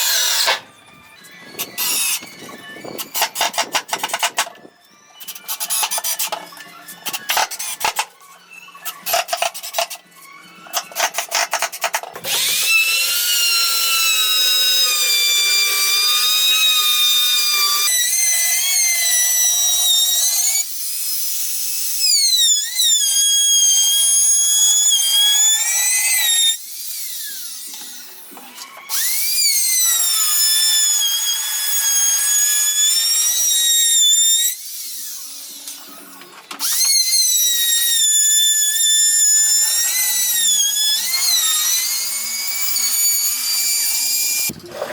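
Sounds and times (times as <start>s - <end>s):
power drill motor whine: 0.0s - 44.9s.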